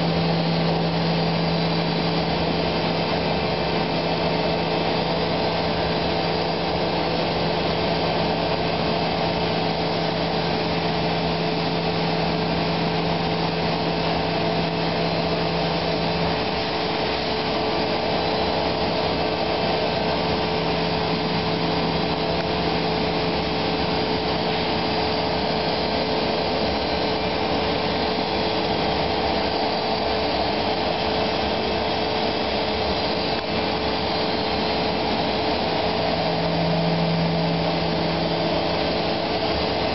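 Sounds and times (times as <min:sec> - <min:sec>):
cnc router milling foam: 0:00.0 - 0:39.9
low hum: 0:00.0 - 0:39.9.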